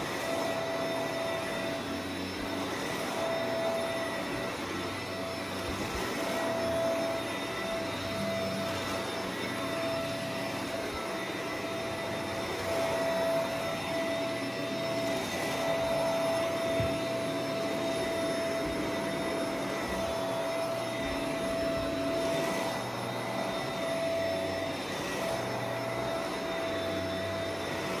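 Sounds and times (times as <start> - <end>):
vacuum cleaner running on carpet: 0.0 - 28.0.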